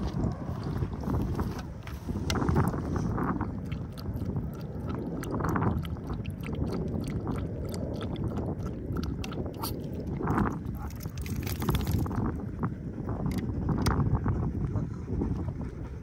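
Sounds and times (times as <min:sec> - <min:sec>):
dog lapping water: 0:00.0 - 0:16.0.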